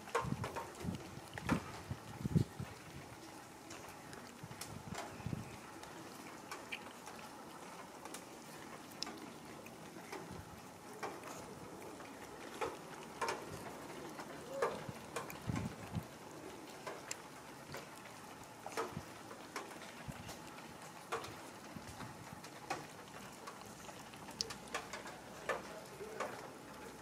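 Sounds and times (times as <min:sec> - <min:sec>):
cats chewing wet food: 0:00.0 - 0:27.0.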